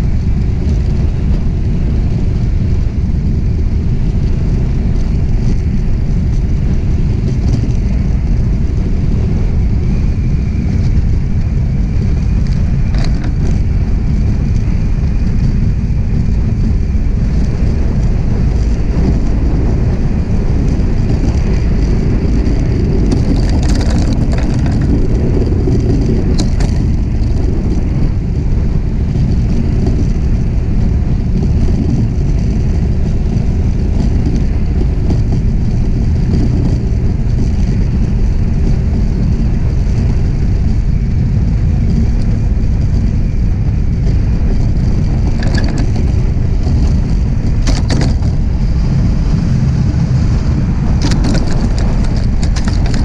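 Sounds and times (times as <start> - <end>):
runners rumbling on ice: 0.0 - 53.0
wind over boat: 0.0 - 53.0.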